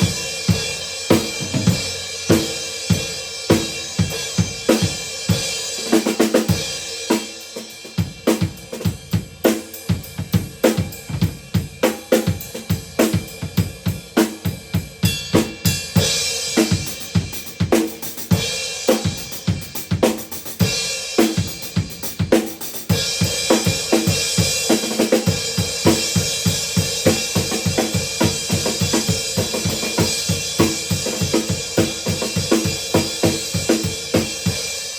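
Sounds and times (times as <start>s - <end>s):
drum kit groove: 0.0s - 34.9s.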